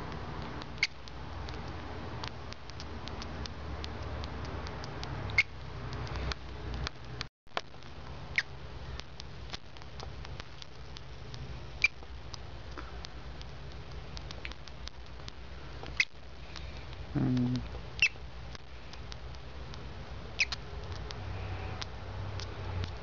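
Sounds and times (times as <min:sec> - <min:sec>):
mouse squeaking: 0:00.4 - 0:07.2, 0:08.3 - 0:16.9, 0:17.9 - 0:23.0.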